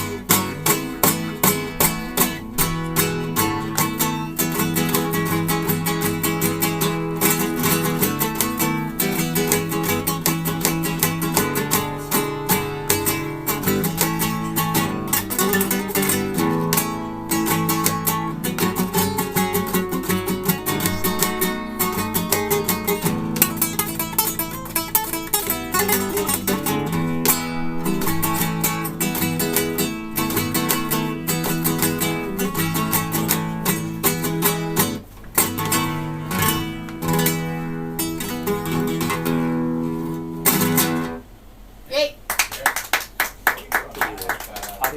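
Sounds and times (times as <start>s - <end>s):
acoustic guitar playing: 0.0s - 41.8s.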